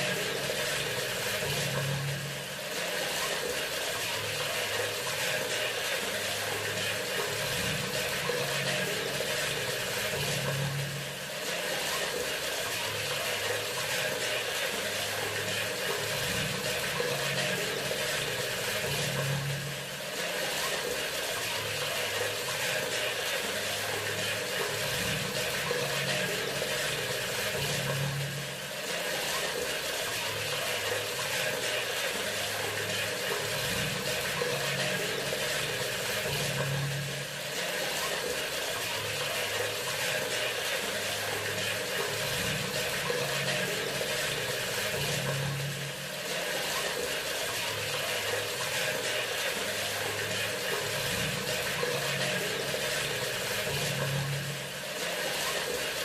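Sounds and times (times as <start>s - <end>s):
water running from sink faucet: 0.0s - 56.0s.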